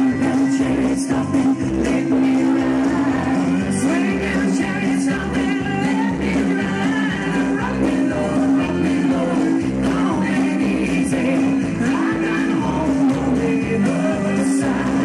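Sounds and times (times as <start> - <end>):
upbeat country song with singer: 0.0 - 15.0.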